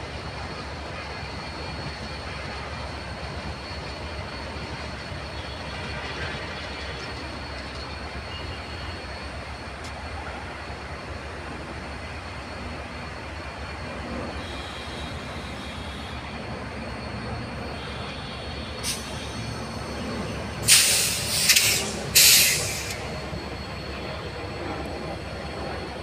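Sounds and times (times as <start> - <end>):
train running on tracks: 0.0 - 26.0.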